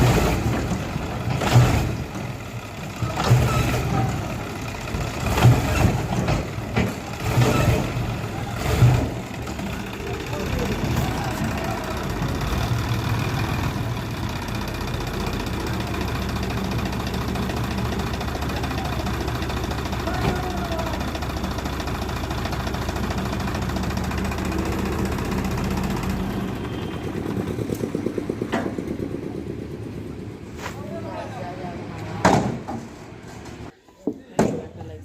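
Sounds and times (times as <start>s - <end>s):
tractor diesel engine idling: 0.0s - 32.2s.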